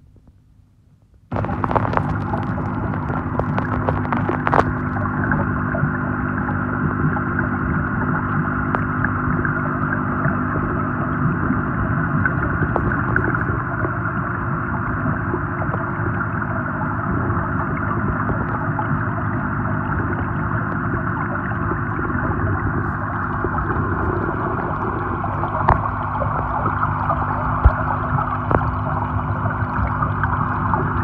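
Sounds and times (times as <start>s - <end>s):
low even hum: 0.0s - 31.0s
aeration bubbles rising: 1.3s - 31.0s
underwater rush of water: 1.3s - 31.0s.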